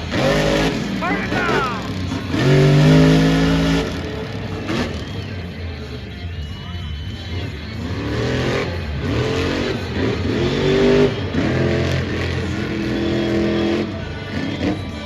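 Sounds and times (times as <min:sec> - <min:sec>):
truck engine revving hard: 0:00.0 - 0:05.4, 0:07.2 - 0:15.0.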